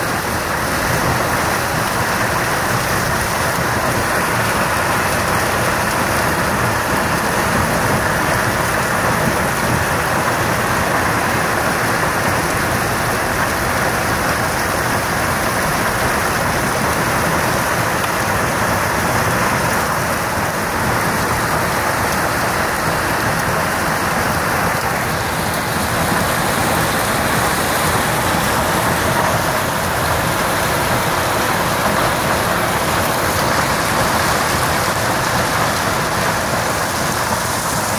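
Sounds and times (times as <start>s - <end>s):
hailstones and heavy rain pelting: 0.0s - 37.9s.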